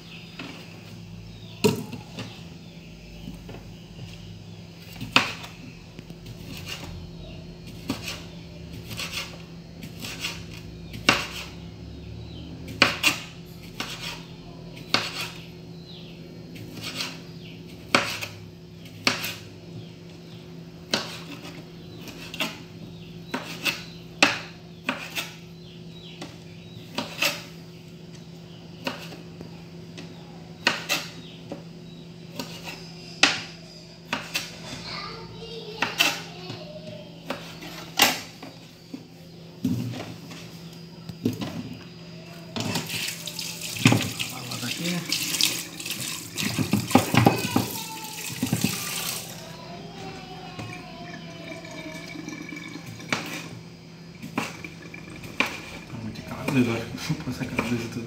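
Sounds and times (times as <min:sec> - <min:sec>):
steady low hum: 0:00.0 - 0:42.5, 0:49.2 - 0:58.0.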